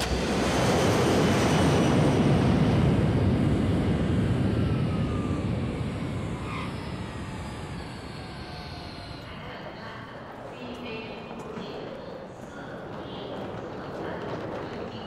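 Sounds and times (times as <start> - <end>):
jet airliner engines roaring: 0.0 - 14.8.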